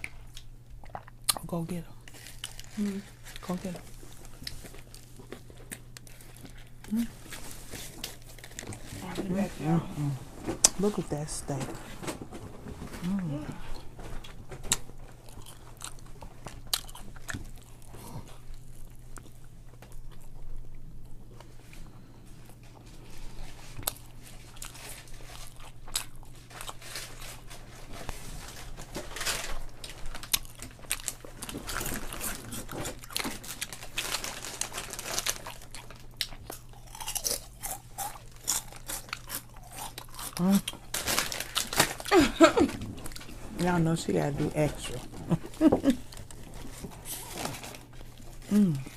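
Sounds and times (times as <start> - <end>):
person chewing crunchy food: 0.0 - 9.1, 13.0 - 43.6.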